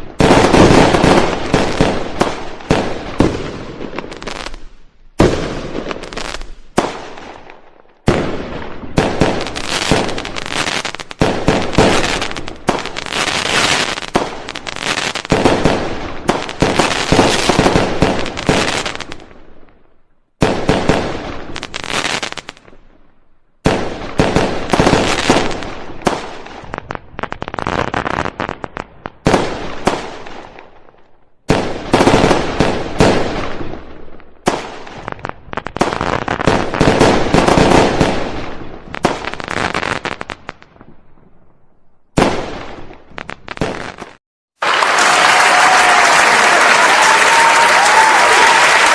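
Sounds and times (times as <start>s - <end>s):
fireworks bangs and pops: 0.0s - 48.9s.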